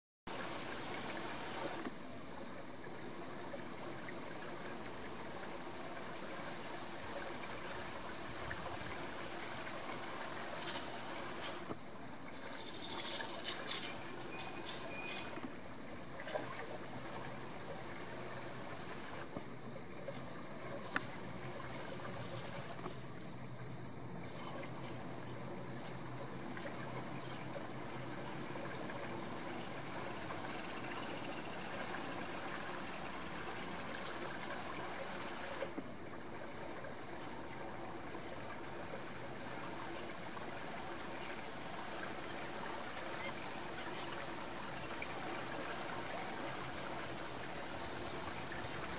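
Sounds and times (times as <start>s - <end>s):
flowing river water: 0.3s - 48.9s.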